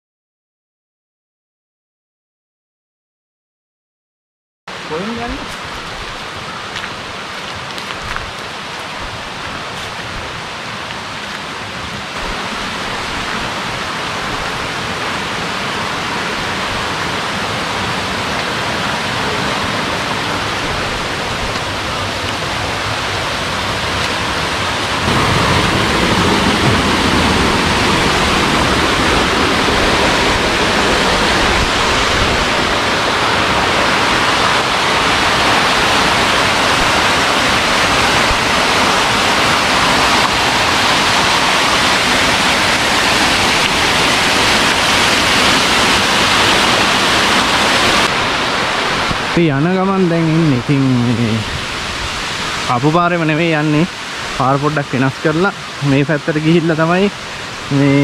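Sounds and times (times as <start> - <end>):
mountain stream rushing: 4.7 - 58.0.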